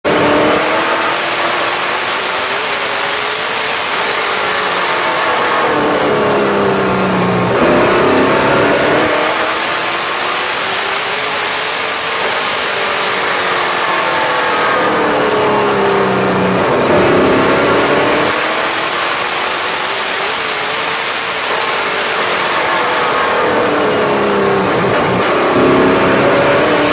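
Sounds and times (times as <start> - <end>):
race car engine: 0.0 - 26.9.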